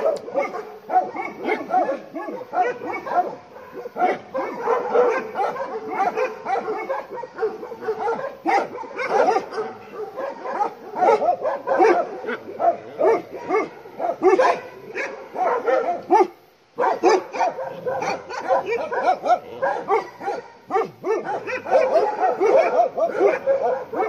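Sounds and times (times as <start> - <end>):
dogs barking: 0.0 - 24.0.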